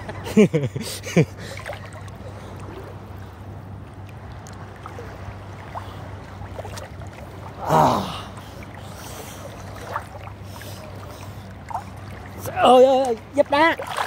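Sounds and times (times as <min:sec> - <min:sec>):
steady low hum: 0:00.0 - 0:14.0
water lapping and gurgling: 0:00.0 - 0:14.0.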